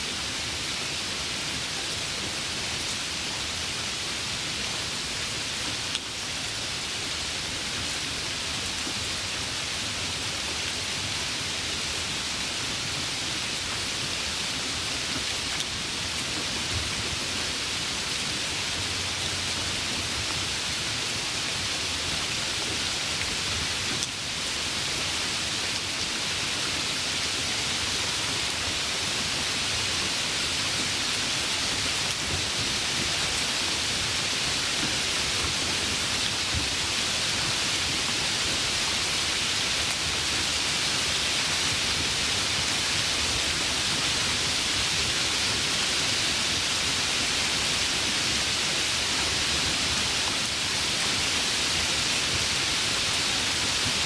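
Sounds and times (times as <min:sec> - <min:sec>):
rain falling by a river: 0:00.0 - 0:54.0.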